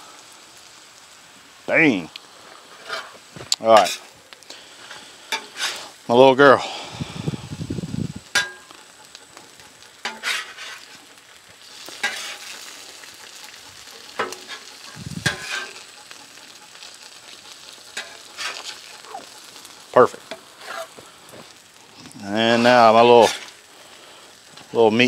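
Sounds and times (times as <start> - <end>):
steak sizzling on griddle: 0.0 - 25.0
metal spatula scraping griddle: 2.4 - 6.1, 8.2 - 24.9.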